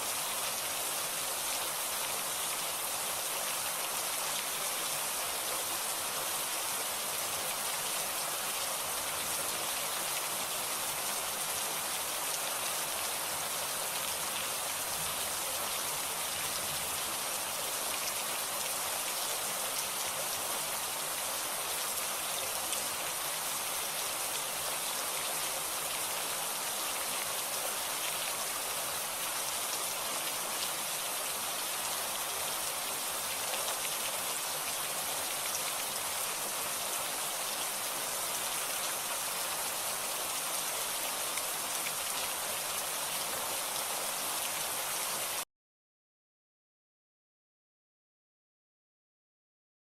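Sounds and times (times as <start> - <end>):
rain falling: 0.0 - 45.4.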